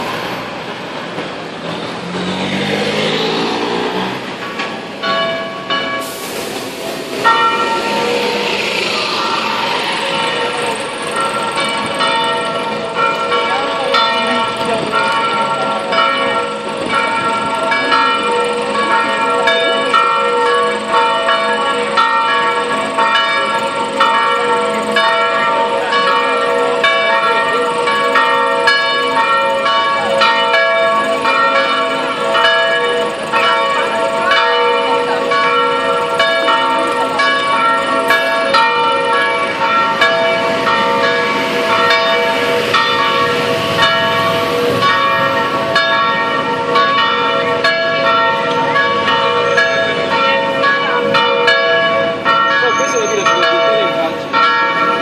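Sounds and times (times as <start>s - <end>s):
church bells ringing: 1.4s - 55.0s.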